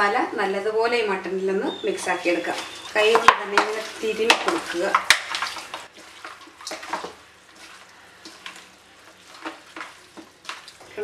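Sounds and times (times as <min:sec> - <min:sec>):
hand squelching meat in bowl: 0:02.0 - 0:10.9.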